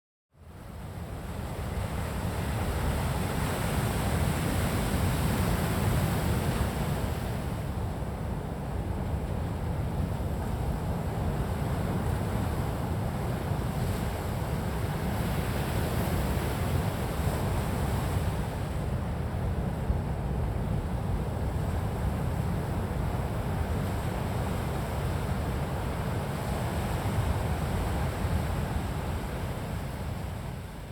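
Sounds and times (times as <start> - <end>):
sea waves washing on shore: 1.4 - 30.9.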